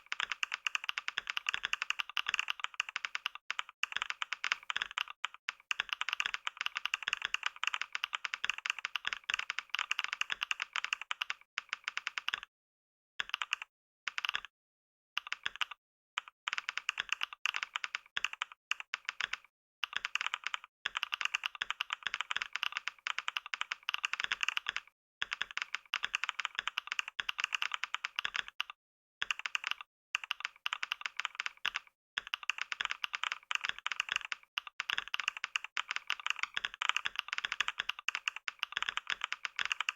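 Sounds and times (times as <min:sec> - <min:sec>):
fast typing on keyboard: 0:00.0 - 0:12.5, 0:13.2 - 0:14.5, 0:15.2 - 0:39.9.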